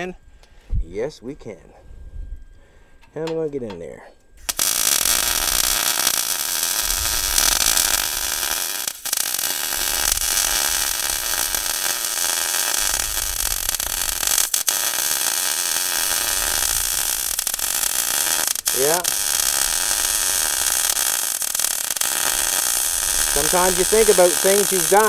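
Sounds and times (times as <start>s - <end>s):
welder arcing with crackling hiss: 4.4s - 25.0s.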